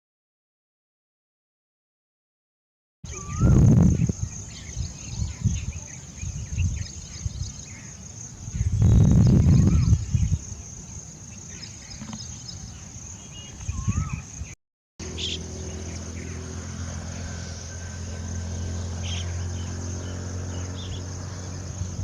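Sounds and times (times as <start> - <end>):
bird chirps: 3.1 - 22.0.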